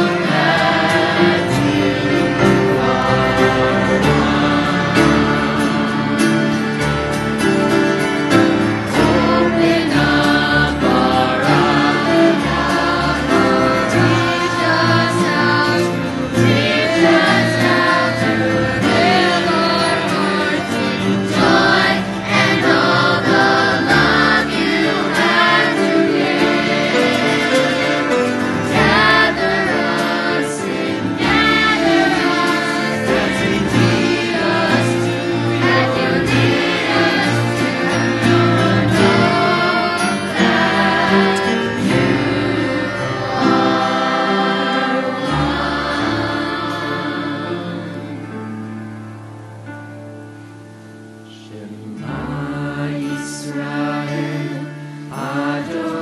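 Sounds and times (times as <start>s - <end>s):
voices singing together: 0.0s - 48.6s, 51.3s - 56.0s
acoustic guitar: 0.0s - 56.0s.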